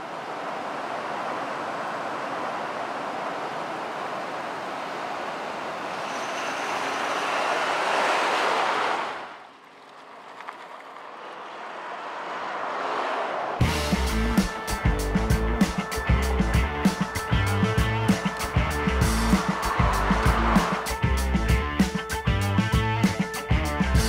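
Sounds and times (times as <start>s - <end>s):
truck tyre and road noise: 0.0s - 23.0s.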